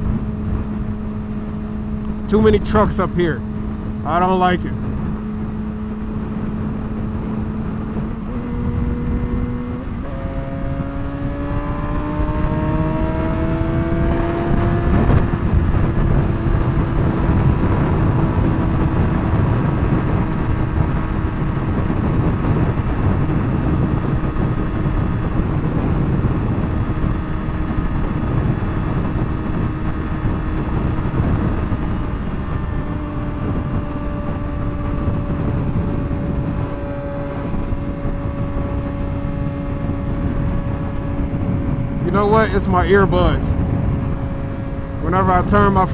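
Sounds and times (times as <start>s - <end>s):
motorcycle engine accelerating: 0.0s - 2.4s, 3.2s - 4.1s, 4.7s - 45.9s
wind rush: 0.0s - 45.9s.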